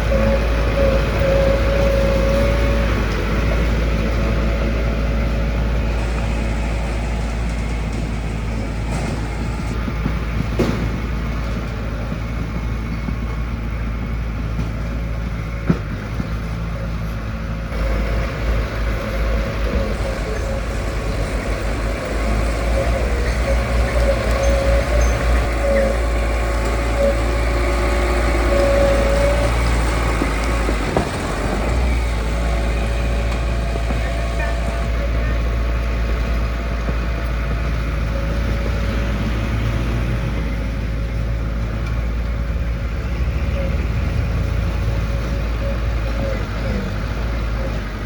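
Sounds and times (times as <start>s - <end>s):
diesel machinery engine droning: 0.0s - 48.0s.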